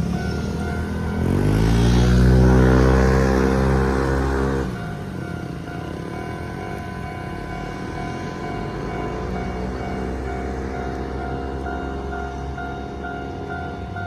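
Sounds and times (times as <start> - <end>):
level crossing warning bell: 0.0 - 14.0
train traction motor whine: 0.0 - 14.0.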